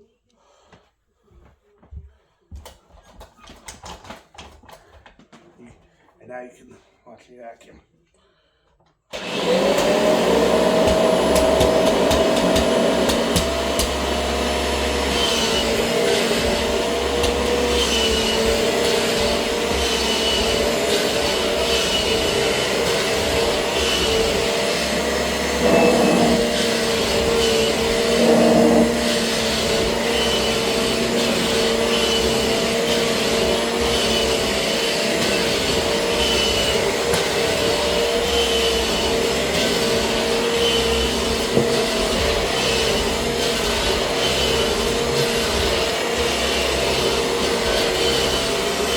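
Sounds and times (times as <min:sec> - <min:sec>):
upright vacuum cleaner running: 0:09.1 - 0:48.9.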